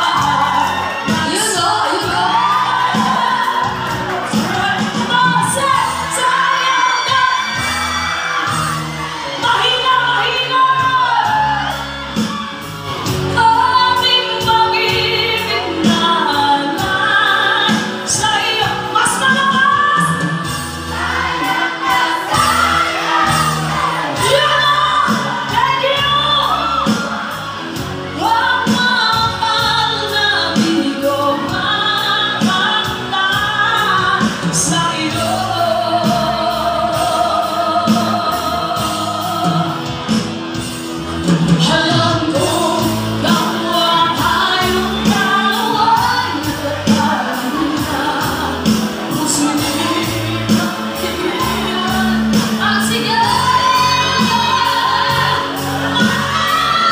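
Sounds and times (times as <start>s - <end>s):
woman singing: 0.0s - 12.3s, 13.0s - 27.4s, 28.0s - 40.2s, 41.3s - 56.9s
live band playing a power ballad: 0.0s - 56.9s.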